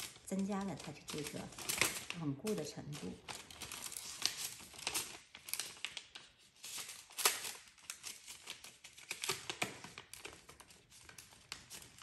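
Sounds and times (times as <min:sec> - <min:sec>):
paper envelope crinkling: 0:00.0 - 0:12.0.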